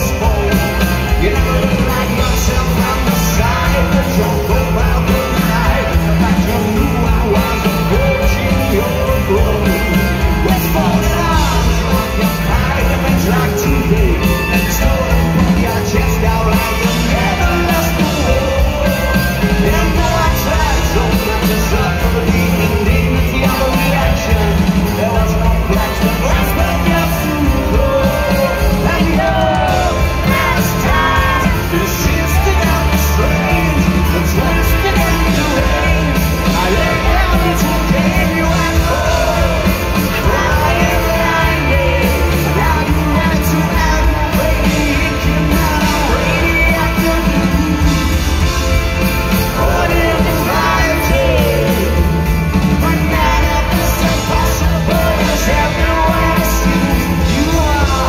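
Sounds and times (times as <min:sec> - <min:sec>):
electric guitar: 0:00.0 - 0:58.0
live rock band playing: 0:00.0 - 0:58.0
man singing: 0:00.0 - 0:58.0.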